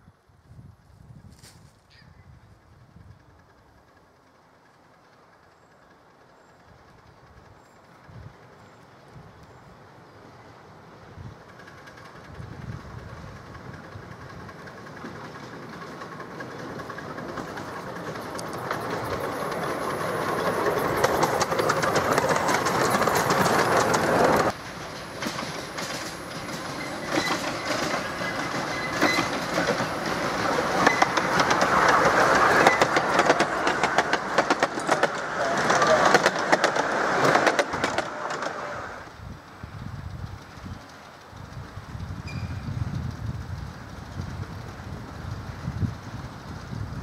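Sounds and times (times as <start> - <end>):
steam train passing: 2.2 - 47.0
train wheels clicking on rail joints: 2.7 - 47.0.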